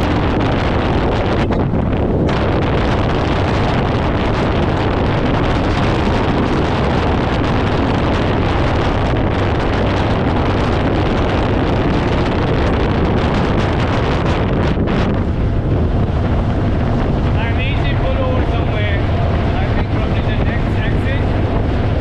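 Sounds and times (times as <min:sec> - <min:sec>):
low rumble: 0:00.0 - 0:22.0
wind rushing over microphone: 0:00.0 - 0:22.0.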